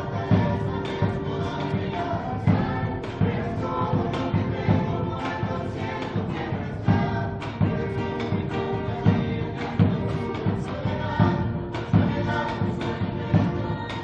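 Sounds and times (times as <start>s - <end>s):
choir-like held tones: 0.0s - 14.0s
music with steady beat: 0.0s - 14.0s.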